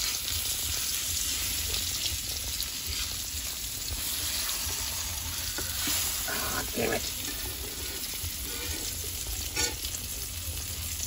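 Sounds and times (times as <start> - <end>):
metal spatula turning food: 0.0 - 10.2
meat sizzling in hot oil: 0.0 - 11.0.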